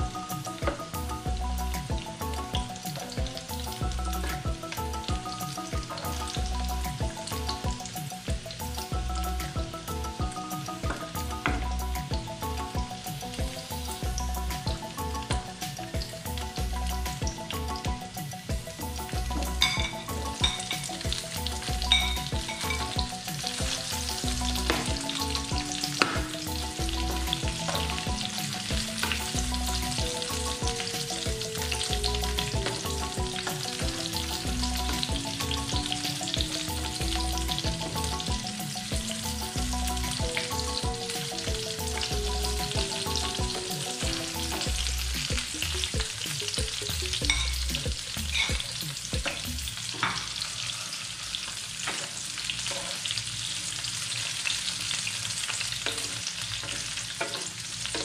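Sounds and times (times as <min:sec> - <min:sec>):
soft background music with beat: 0:00.0 - 0:50.4
vegetables sizzling in frying pan: 0:00.0 - 0:58.0.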